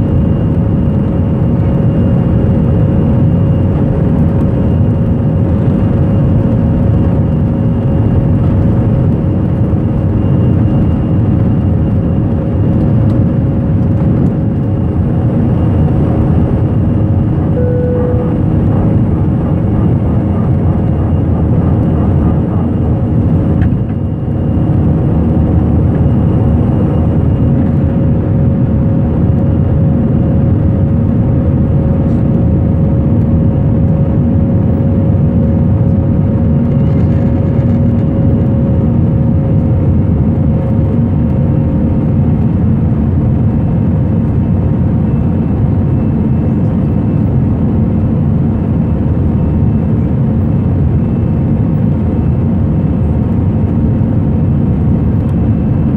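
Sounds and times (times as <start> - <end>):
jet engine cabin rumble: 0.0 - 55.9
steady hum: 0.0 - 55.9.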